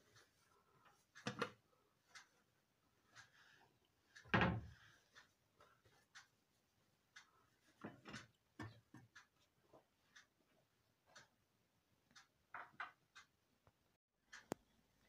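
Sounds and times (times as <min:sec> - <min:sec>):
faint clock ticking: 0:00.0 - 0:15.0.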